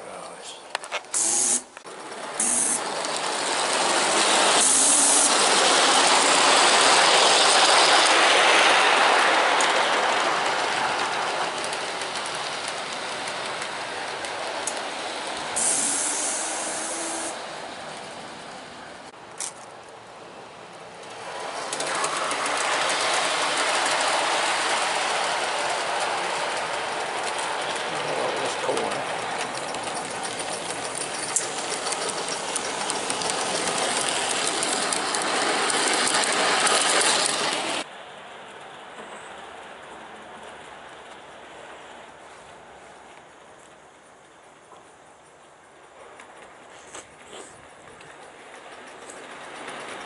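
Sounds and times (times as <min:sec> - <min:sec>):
model steam locomotive running: 0:01.1 - 0:19.2, 0:21.0 - 0:42.4, 0:46.0 - 0:50.0.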